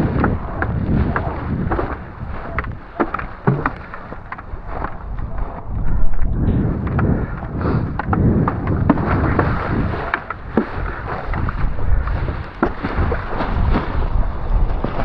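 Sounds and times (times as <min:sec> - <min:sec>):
water splashes: 0:00.0 - 0:05.5, 0:07.4 - 0:15.0
wind buffeting microphone: 0:00.0 - 0:15.0.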